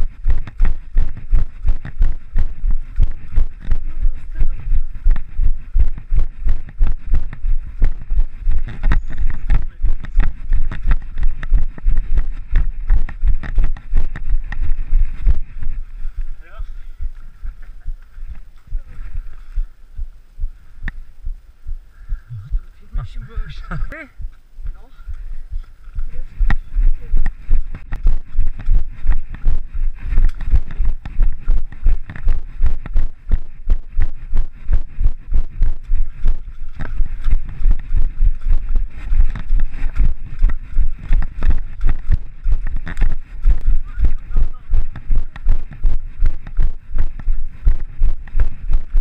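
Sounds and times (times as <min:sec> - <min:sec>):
running footsteps on mud: 0:00.0 - 0:49.0
wind rumbling on microphone: 0:00.0 - 0:49.0.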